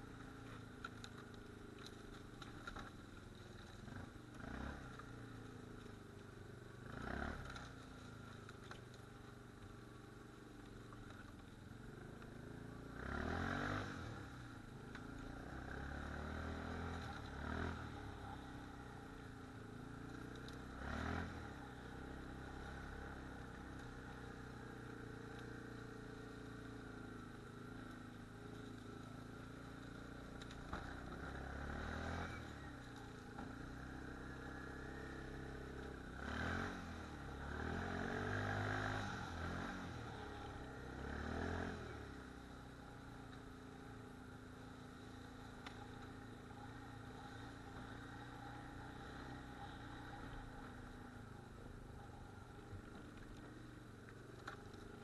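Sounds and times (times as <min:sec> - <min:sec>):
quad engine running slowly: 0:00.0 - 0:55.0.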